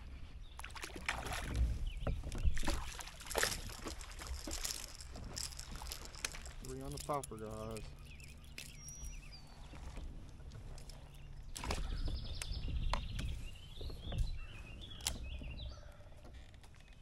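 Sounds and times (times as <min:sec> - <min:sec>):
songbirds chirping and singing: 0:00.2 - 0:17.0.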